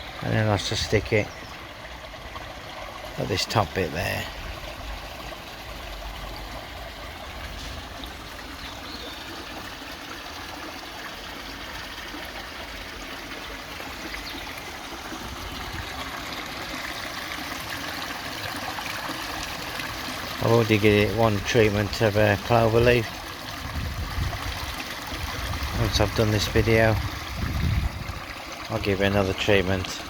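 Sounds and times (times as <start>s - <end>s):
waterfall splashing into pond: 0.0s - 30.0s.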